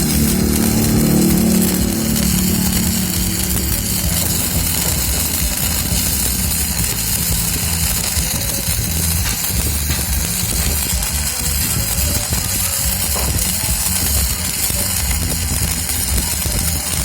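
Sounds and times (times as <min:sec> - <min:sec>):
arc welding crackling hiss: 0:00.0 - 0:17.0.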